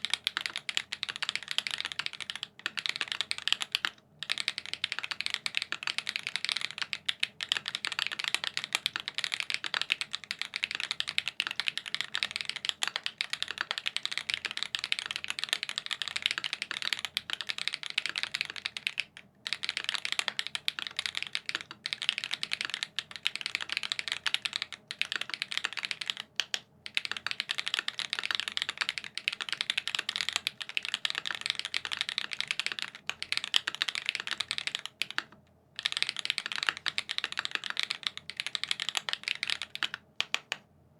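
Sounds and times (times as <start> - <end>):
mechanical keyboard typing: 0.0 - 40.6.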